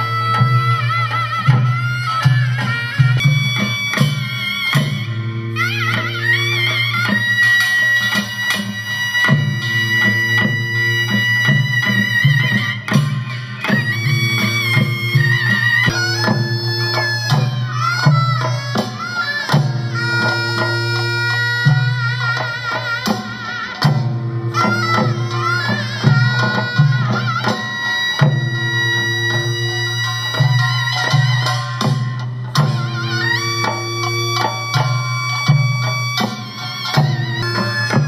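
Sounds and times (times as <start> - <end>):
drum beats: 0.0 - 38.0
reedy wind instrument melody: 0.0 - 38.0.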